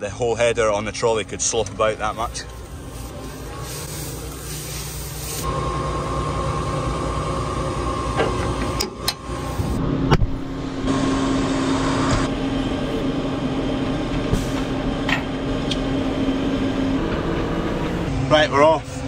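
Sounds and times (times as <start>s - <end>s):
diesel engines running: 0.0s - 19.0s
tractor engine droning: 0.0s - 19.0s.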